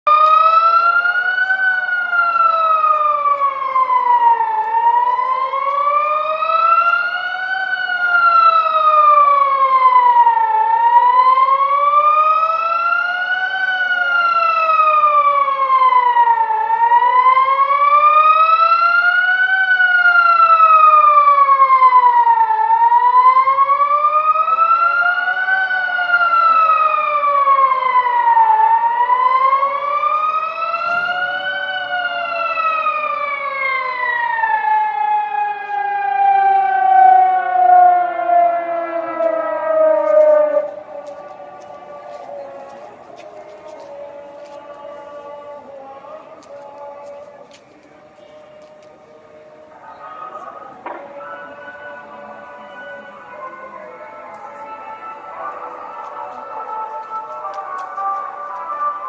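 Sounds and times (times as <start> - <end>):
warning sirens wailing: 0.0 - 59.0.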